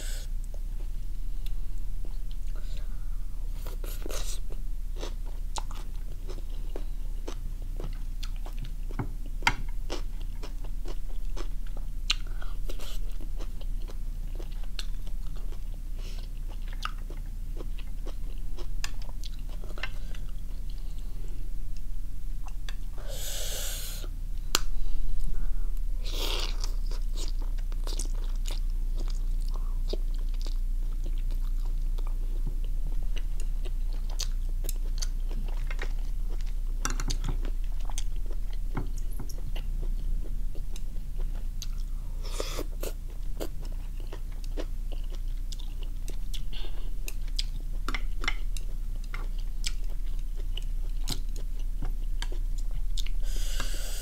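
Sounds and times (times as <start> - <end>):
person chewing food: 3.5 - 24.8, 26.0 - 54.0.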